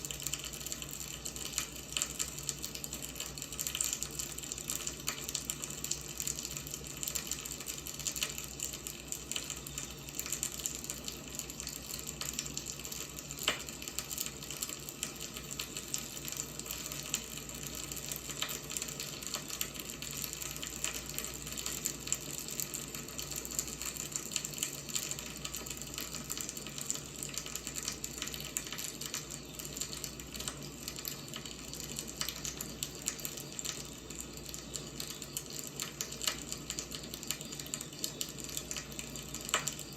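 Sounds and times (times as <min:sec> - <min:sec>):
firewood burning with crackles: 0:00.0 - 0:39.9.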